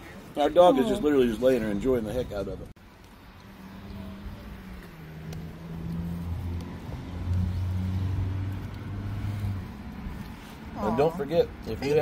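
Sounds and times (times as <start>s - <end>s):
vehicle engine humming: 0.1s - 12.0s.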